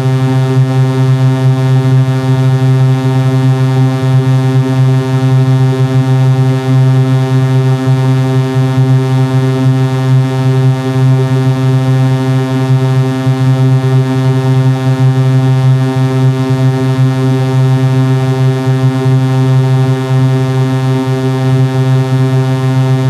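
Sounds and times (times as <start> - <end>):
synthesized buzzing drone: 0.0 - 23.0.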